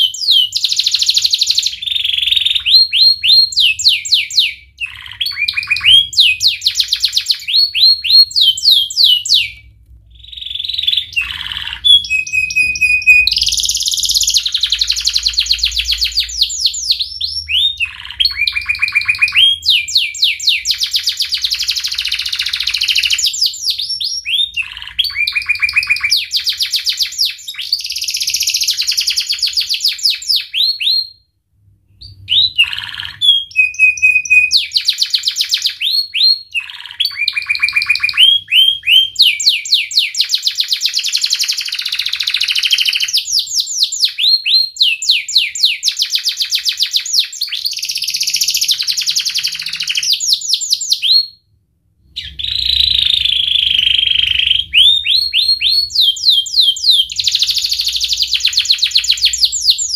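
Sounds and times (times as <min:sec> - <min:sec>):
canary singing trills: 0:00.0 - 0:31.2, 0:32.0 - 0:51.4, 0:52.1 - 0:59.9.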